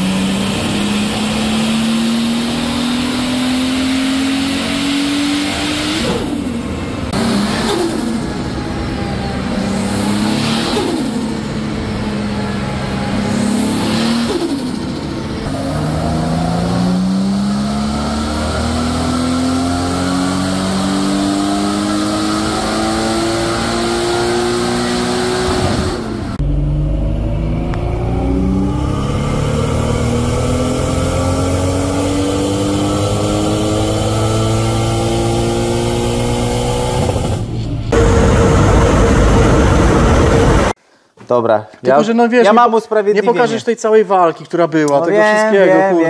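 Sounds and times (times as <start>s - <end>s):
turbocharged engine on dyno: 0.0s - 40.8s.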